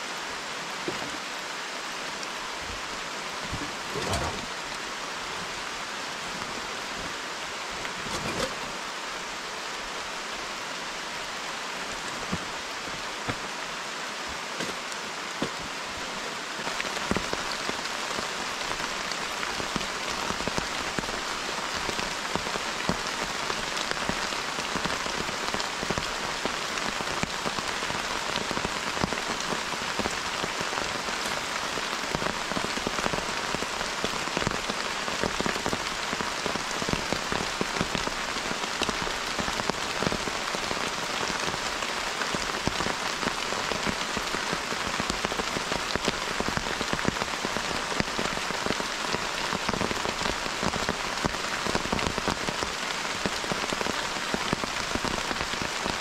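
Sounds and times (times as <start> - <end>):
rain on foliage: 0.0 - 56.0.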